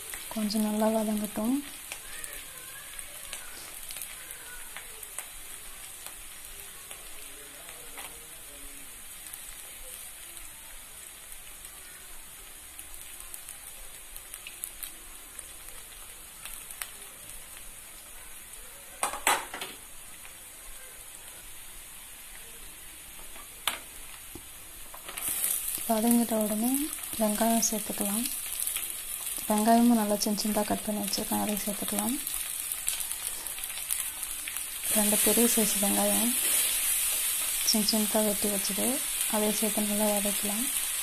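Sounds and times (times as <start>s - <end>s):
spices sizzling in oil: 0.0s - 41.0s.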